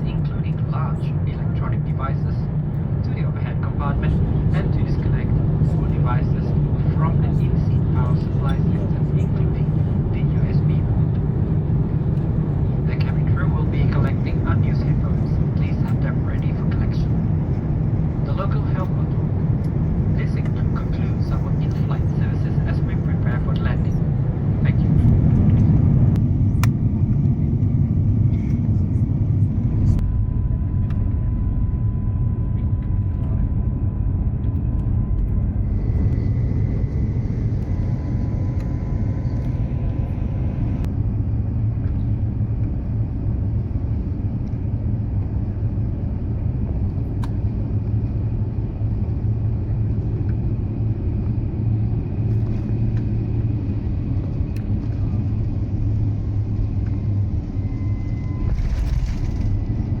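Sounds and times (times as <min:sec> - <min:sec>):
airplane cabin engine rumble: 0:00.0 - 1:00.0.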